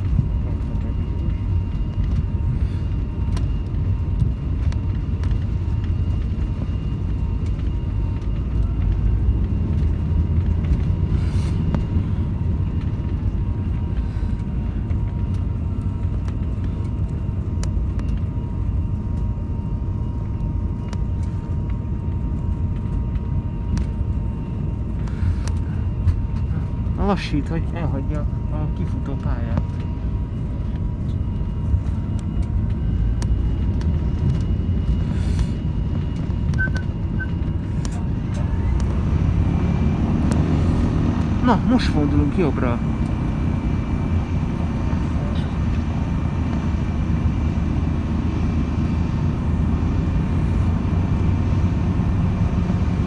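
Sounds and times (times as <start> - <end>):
faint steady whine: 0.0 - 53.0
low rumble of radial engines: 0.0 - 53.0.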